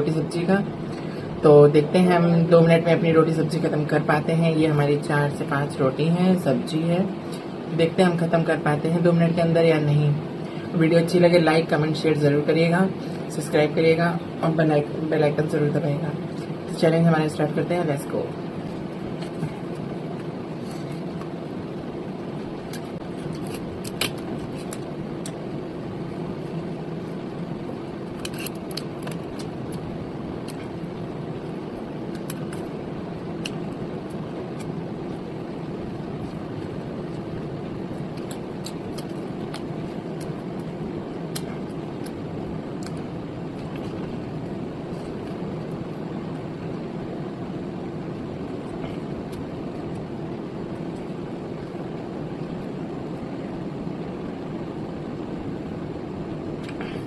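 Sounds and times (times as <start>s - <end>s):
mechanical hum with low drone: 0.0s - 57.0s.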